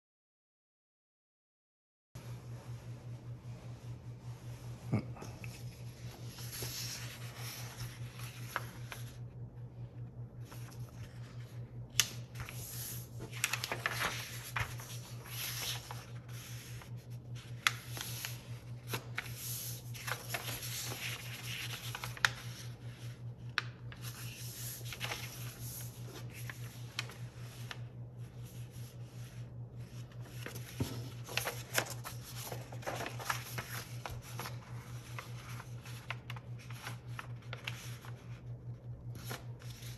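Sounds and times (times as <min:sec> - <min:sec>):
paper rustling and sliding: 0:05.4 - 0:39.9
paper crackling at creases: 0:05.5 - 0:39.9.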